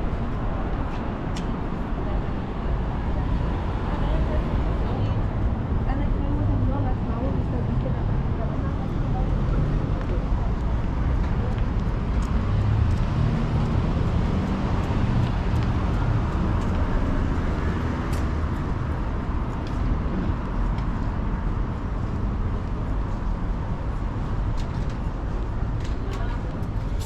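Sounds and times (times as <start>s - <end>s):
passing cars hum: 0.0s - 27.0s.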